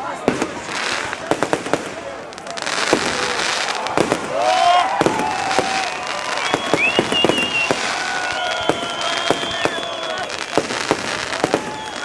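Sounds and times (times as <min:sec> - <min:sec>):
fireworks bangs and crackles: 0:00.0 - 0:12.0
high fireworks whistles: 0:00.5 - 0:12.0.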